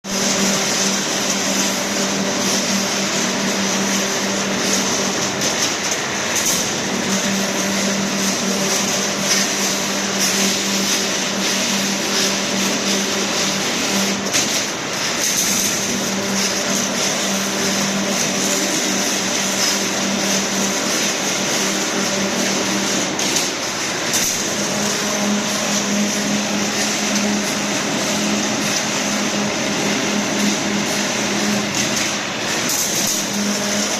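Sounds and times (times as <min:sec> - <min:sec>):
constant machine hum: 0:00.0 - 0:33.9
machine mechanical rattle: 0:00.1 - 0:33.9.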